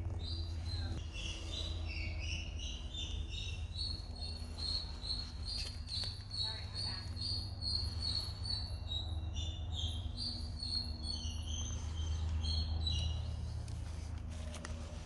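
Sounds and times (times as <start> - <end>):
small birds chirping: 0.0 - 14.0
steady low rumble: 0.0 - 15.0.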